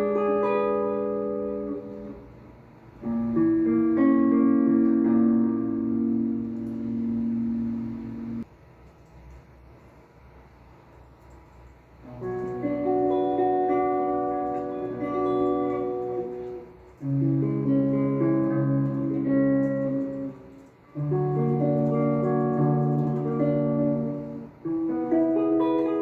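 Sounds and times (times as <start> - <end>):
guitar chords ringing: 0.0 - 8.4, 12.1 - 26.0.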